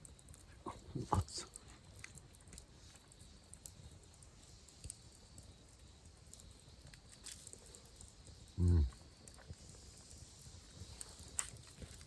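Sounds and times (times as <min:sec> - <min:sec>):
faint ticks and crackles: 0:00.0 - 0:12.0.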